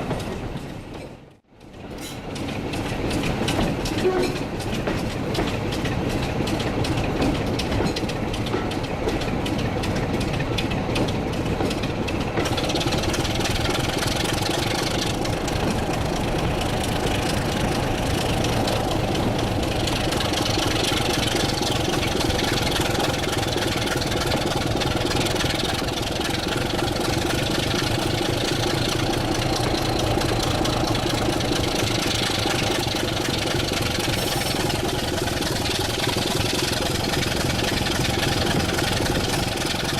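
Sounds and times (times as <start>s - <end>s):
diesel locomotive engine running: 0.0s - 39.9s
hiss and clatter: 0.0s - 39.9s.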